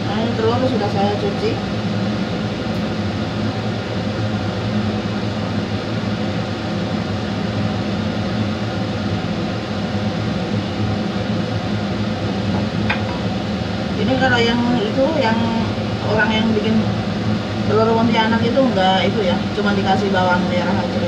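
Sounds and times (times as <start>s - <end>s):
appliance fan whirring: 0.0s - 21.0s.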